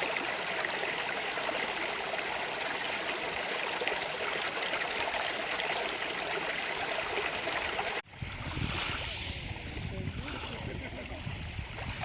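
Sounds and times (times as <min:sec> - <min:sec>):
stream splashing over stones: 0:00.0 - 0:12.0.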